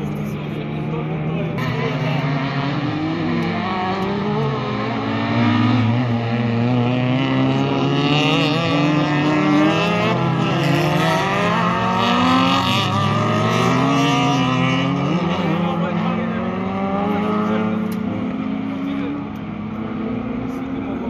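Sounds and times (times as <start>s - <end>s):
race car engines revving: 0.0s - 21.0s.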